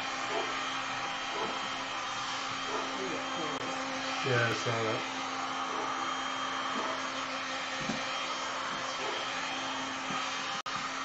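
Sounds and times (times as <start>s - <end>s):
heat gun blowing air: 0.0s - 11.0s.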